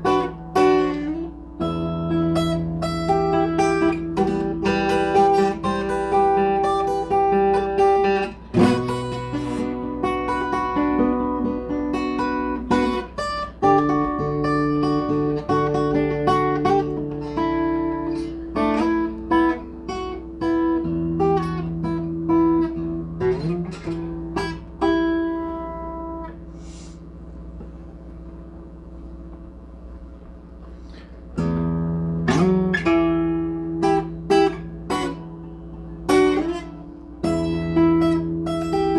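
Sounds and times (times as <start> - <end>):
guitar notes and chords: 0.0 - 38.9.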